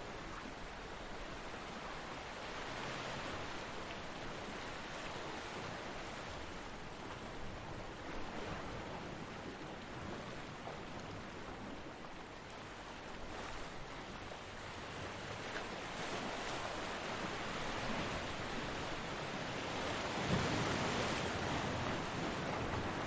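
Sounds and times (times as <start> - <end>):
ocean waves breaking on beach: 0.0 - 23.0.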